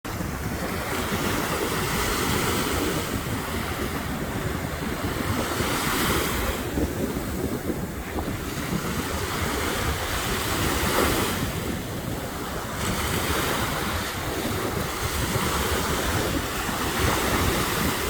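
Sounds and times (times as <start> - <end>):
wind buffeting microphone: 0.0 - 18.0
ocean surf breaking on beach: 0.1 - 18.0.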